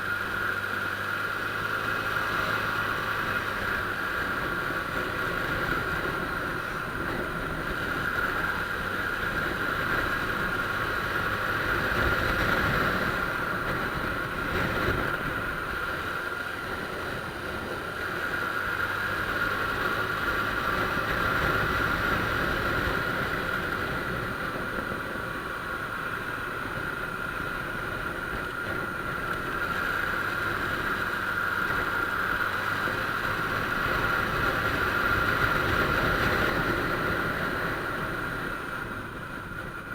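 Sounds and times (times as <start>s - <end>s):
scooter engine hum: 0.0s - 39.9s.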